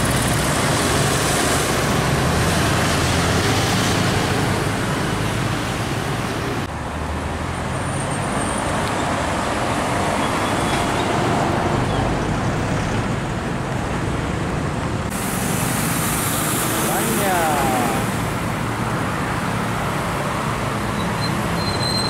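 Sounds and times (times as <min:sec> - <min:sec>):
traffic rushing past: 0:00.0 - 0:22.0
truck engines droning: 0:00.0 - 0:22.0.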